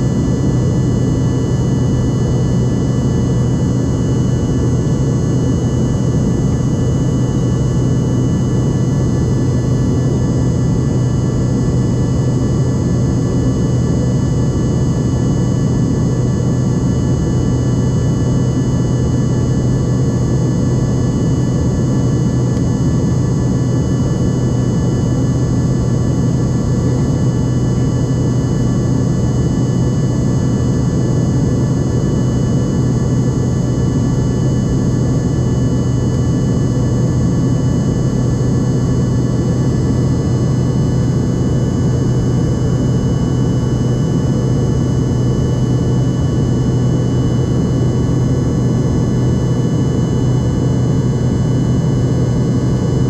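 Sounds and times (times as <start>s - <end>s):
constant low hum: 0.0s - 53.0s.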